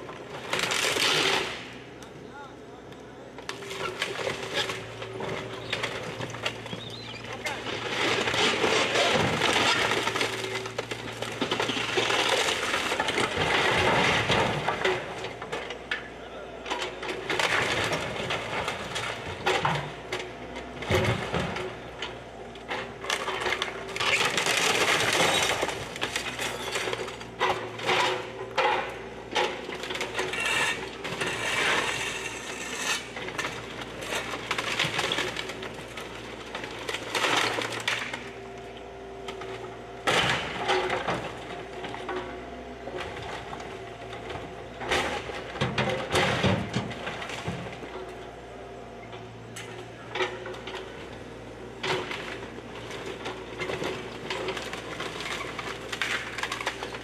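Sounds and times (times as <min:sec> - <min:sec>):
excavator diesel engine running: 0:00.0 - 0:57.0
boards splintering and rubble falling: 0:03.5 - 0:16.1, 0:16.7 - 0:38.4, 0:39.3 - 0:42.3, 0:43.0 - 0:47.9, 0:51.7 - 0:57.0.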